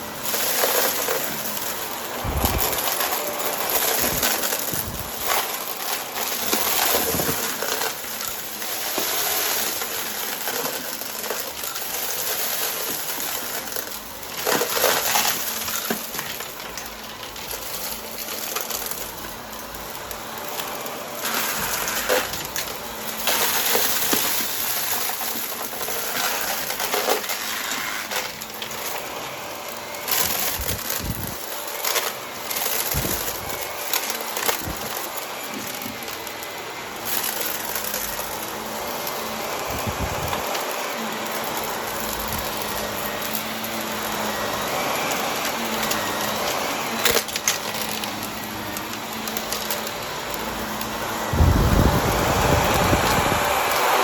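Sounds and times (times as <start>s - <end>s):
debris crackling in vacuum: 0.0s - 54.0s
vacuum cleaner running: 0.0s - 54.0s.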